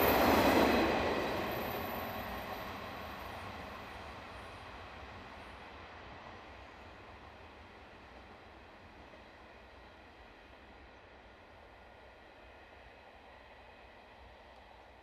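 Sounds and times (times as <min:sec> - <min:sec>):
diesel train running: 0:00.0 - 0:15.0.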